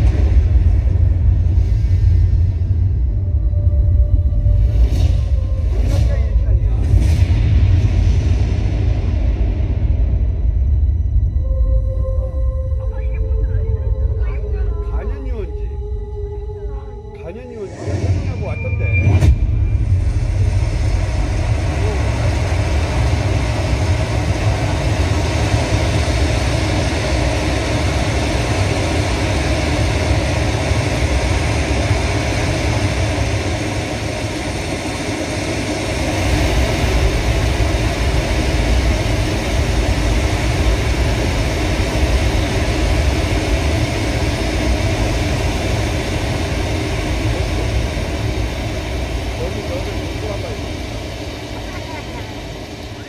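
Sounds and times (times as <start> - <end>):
deep rumbling from speakers: 0.0 - 53.0.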